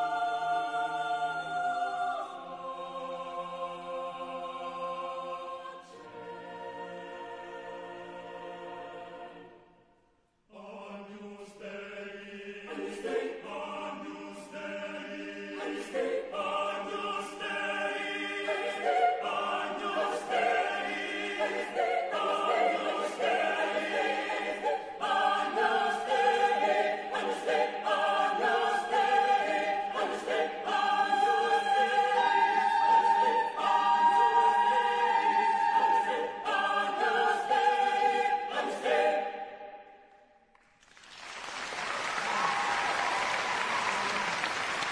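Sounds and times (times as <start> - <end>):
choir singing: 0.0 - 40.5.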